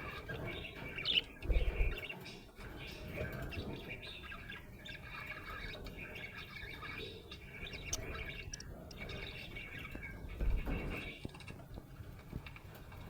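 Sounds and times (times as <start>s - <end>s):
budgerigar chirping and chattering: 0.0s - 11.3s.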